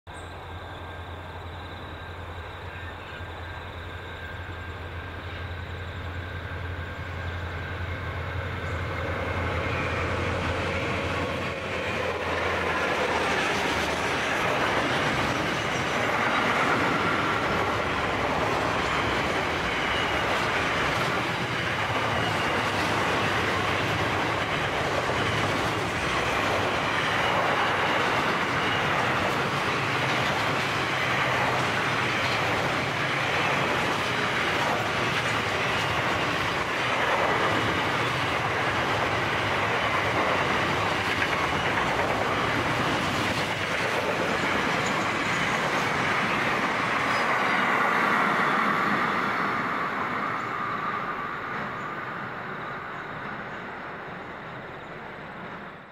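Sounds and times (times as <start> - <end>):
diesel locomotives rumbling: 0.1 - 55.9.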